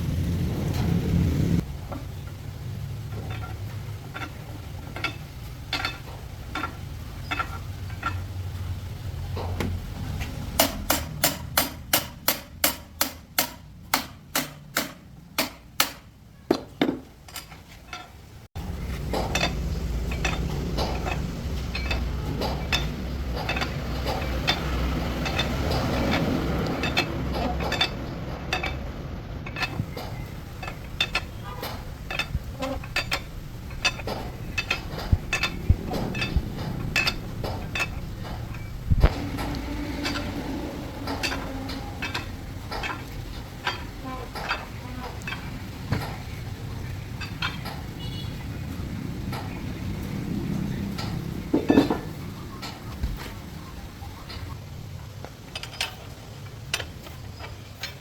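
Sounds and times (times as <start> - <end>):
steady low hum: 0.0 - 58.0
metal tools clinking and scraping: 1.6 - 48.4, 49.3 - 54.6, 55.4 - 58.0.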